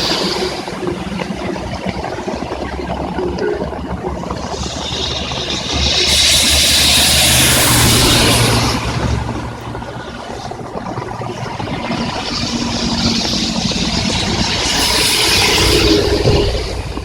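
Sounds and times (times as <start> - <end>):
heavy rain: 0.0 - 17.0
tyre spray on wet road: 0.0 - 17.0
vehicle engine rumble: 0.0 - 17.0.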